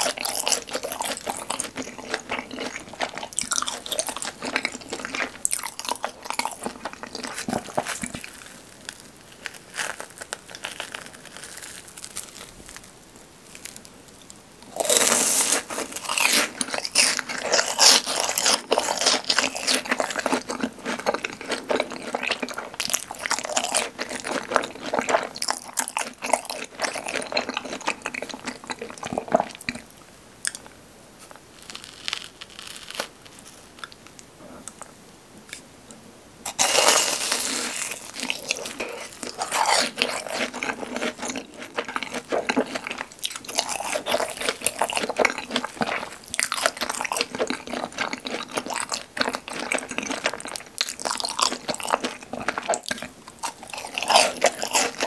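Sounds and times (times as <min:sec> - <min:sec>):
crunching and chewing of cheese balls: 0:00.0 - 0:35.7, 0:36.4 - 0:55.0.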